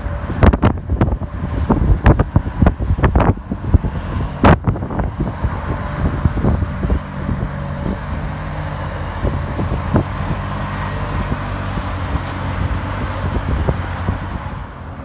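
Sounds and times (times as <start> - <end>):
ice resurfacer engine running: 0.0 - 15.0.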